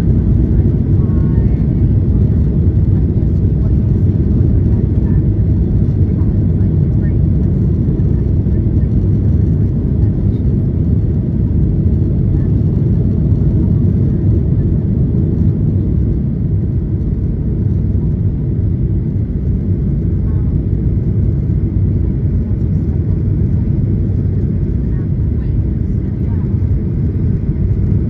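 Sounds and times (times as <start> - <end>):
jet engine and airflow rumble: 0.0 - 28.0.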